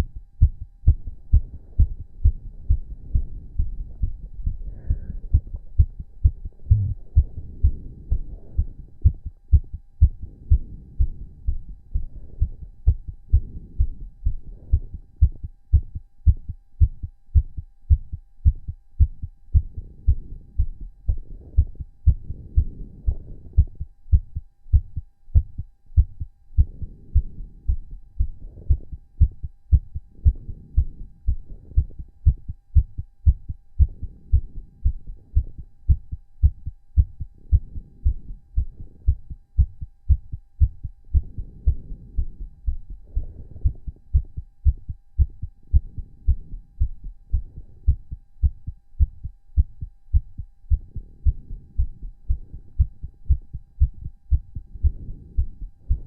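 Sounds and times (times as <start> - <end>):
heart beating fast: 0.0 - 56.0.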